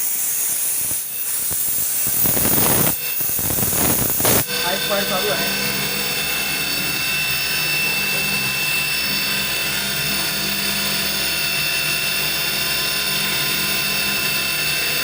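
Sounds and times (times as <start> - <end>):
machine whine and hum: 0.0 - 15.0.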